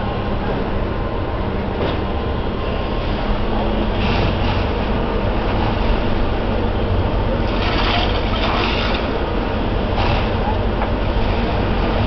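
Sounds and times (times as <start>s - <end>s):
fire engine diesel pump rumble: 0.0s - 12.0s.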